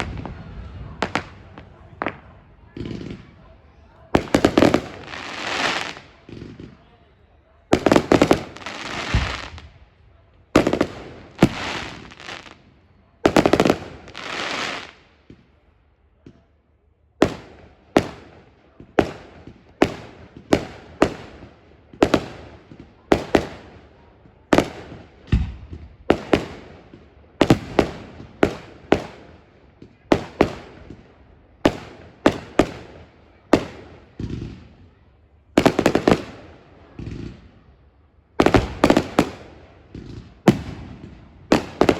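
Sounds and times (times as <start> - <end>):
fireworks bursting with echo: 0.0 - 16.6, 17.2 - 37.7, 38.3 - 41.9.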